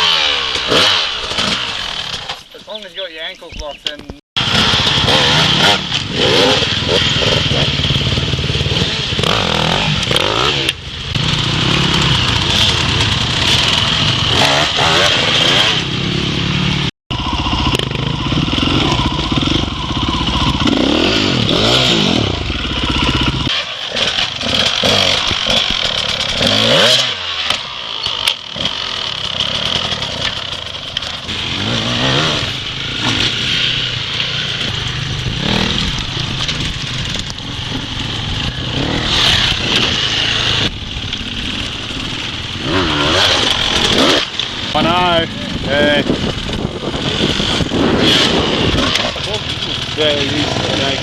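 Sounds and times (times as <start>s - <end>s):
dirt bike engine revving: 0.0s - 2.4s, 4.4s - 51.0s.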